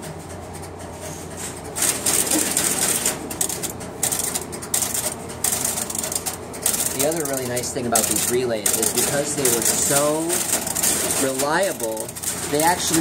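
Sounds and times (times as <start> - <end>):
low electrical hum: 0.0 - 13.0
relays clicking in bursts: 1.8 - 13.0.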